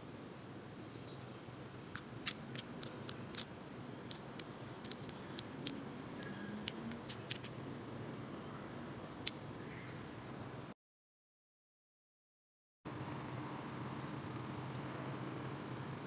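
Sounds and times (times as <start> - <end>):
faint steady hum: 0.0 - 10.8, 12.9 - 16.0.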